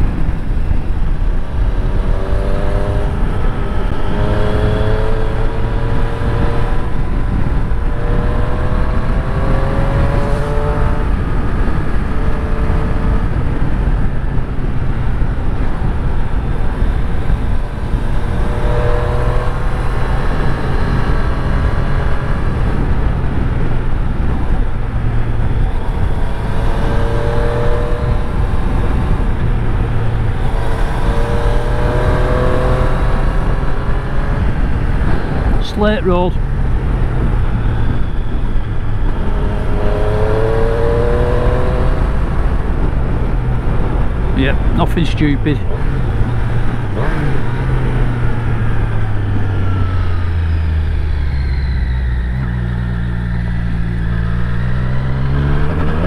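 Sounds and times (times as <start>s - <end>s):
motorcycle engine accelerating: 0.0s - 56.0s
road and wind noise: 0.0s - 56.0s.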